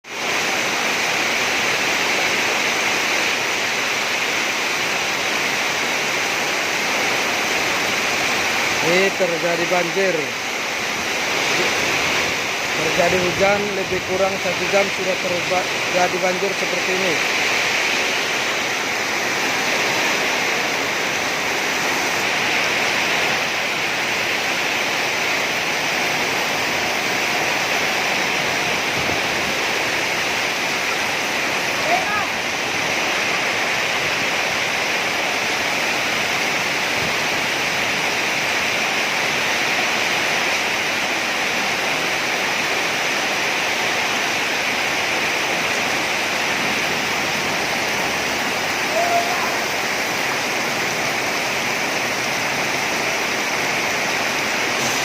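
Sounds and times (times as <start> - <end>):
heavy rain and floodwater rushing: 0.0 - 55.0.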